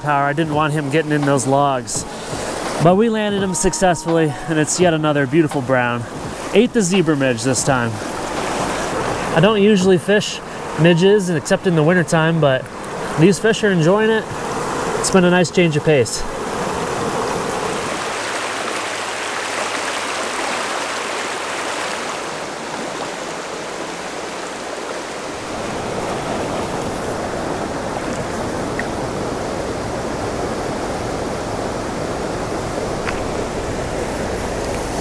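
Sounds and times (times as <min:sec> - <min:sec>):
creek water splashing over riffle: 0:00.0 - 0:30.0, 0:32.2 - 0:35.0.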